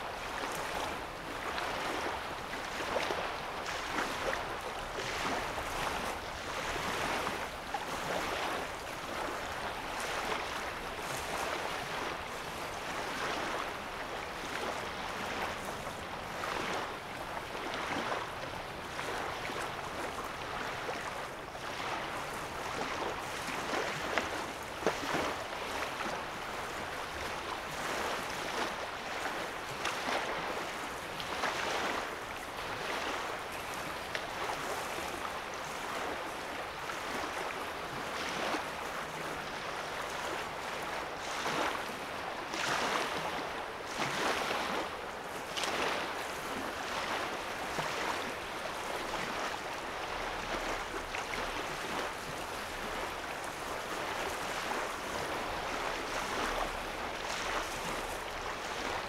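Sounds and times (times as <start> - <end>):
water noise: 0.0 - 59.0
waves lapping on sandy shore: 0.0 - 59.0.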